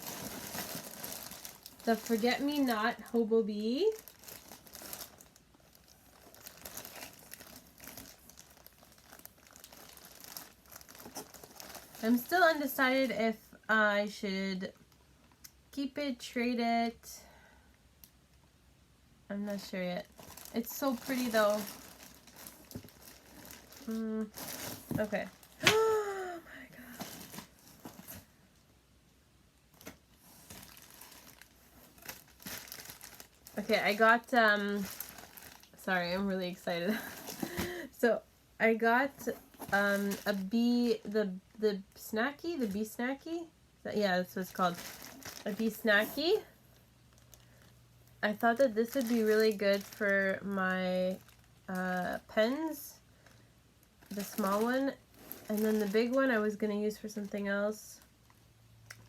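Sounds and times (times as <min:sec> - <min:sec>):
packaging crinkling and rustling: 0:00.0 - 0:13.2, 0:19.6 - 0:28.7, 0:29.7 - 0:37.9, 0:39.0 - 0:41.2, 0:44.2 - 0:59.0.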